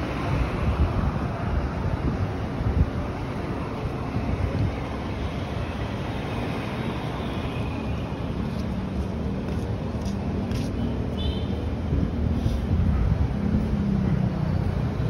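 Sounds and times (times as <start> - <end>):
car engines rumbling: 0.0 - 15.0
tyres on road: 0.0 - 15.0.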